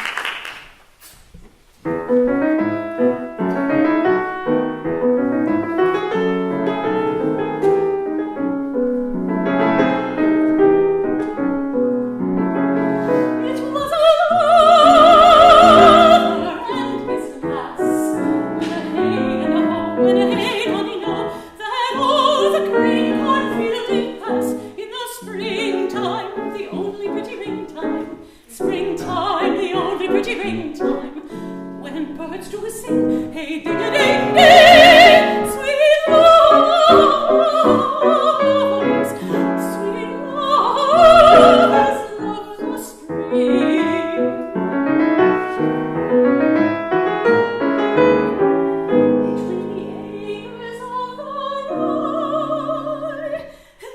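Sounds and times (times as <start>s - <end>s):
person singing classical song: 0.0s - 53.9s
piano accompaniment: 1.8s - 53.6s.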